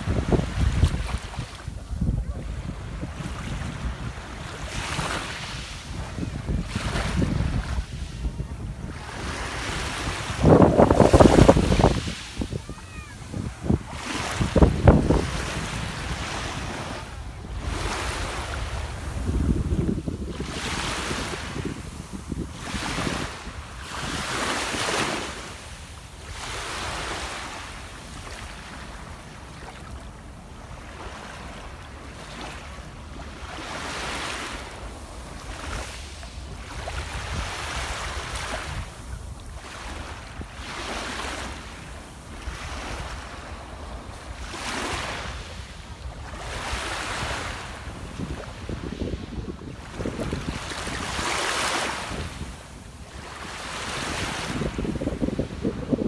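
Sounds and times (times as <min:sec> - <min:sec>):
sea waves breaking on shore: 0:00.0 - 0:56.0
wind buffeting microphone: 0:00.0 - 0:56.0.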